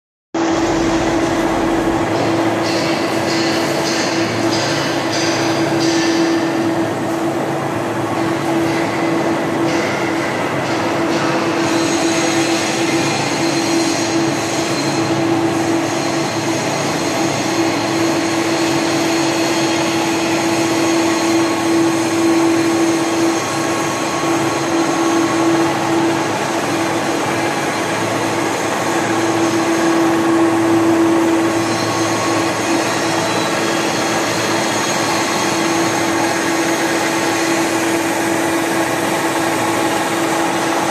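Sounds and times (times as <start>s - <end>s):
machine mechanical hum: 0.4s - 40.9s.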